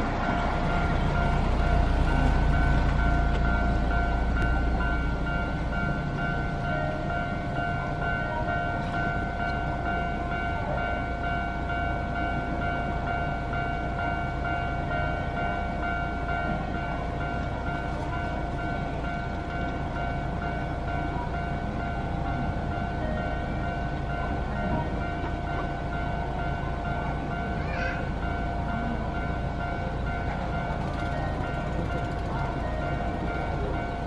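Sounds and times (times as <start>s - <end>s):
level crossing warning bell: 0.0s - 34.0s.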